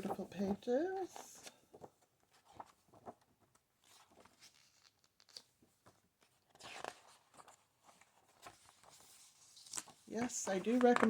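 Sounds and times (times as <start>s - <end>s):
book pages rustling: 0.0s - 11.0s.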